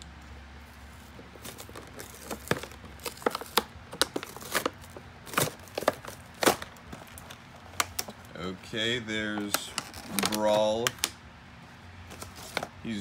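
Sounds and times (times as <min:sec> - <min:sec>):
plastic blister pack crackling: 0:00.7 - 0:11.2.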